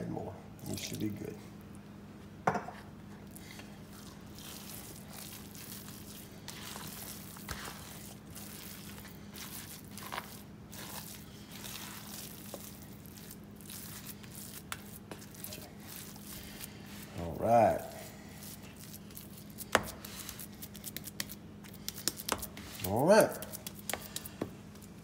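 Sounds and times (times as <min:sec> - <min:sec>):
faint steady hum: 0:00.0 - 0:25.0
spatula stirring moist dressing: 0:03.1 - 0:25.0.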